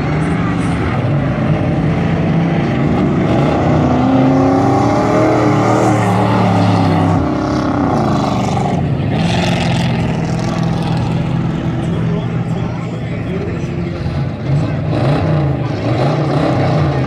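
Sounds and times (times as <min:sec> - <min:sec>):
race truck engines running slowly: 0:00.0 - 0:17.0
truck engine passing close: 0:00.0 - 0:17.0.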